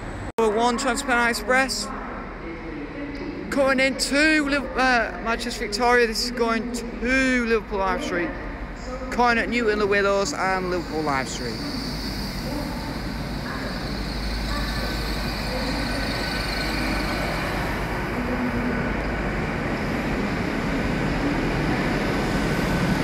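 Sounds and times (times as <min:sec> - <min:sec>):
passenger train rumbling: 0:00.0 - 0:23.0.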